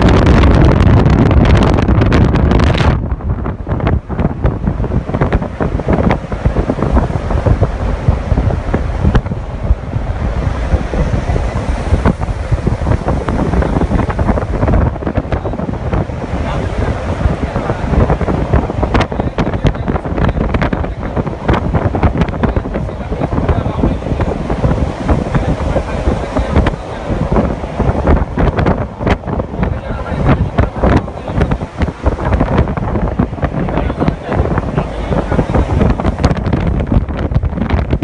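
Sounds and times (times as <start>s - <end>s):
low road rumble: 0.0s - 38.0s
wind buffeting microphone: 0.0s - 38.0s.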